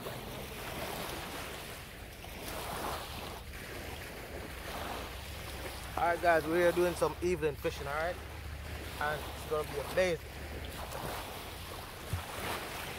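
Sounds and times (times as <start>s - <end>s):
small waves washing on beach: 0.0s - 12.9s.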